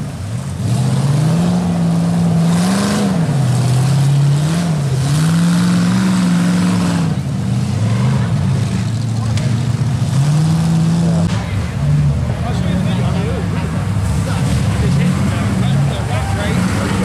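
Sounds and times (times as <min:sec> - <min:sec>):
buggy engine revving hard: 0:00.0 - 0:17.0.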